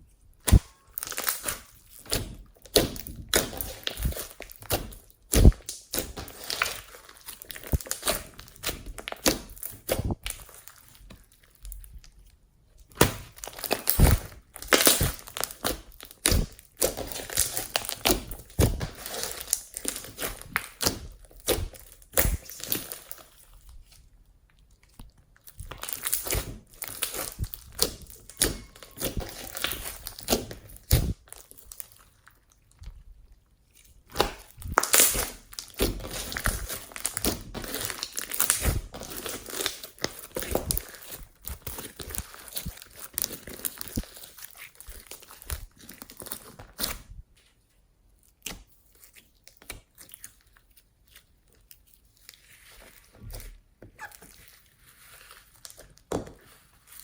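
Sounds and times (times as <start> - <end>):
hands squishing slime: 0.0 - 47.6, 48.2 - 57.0.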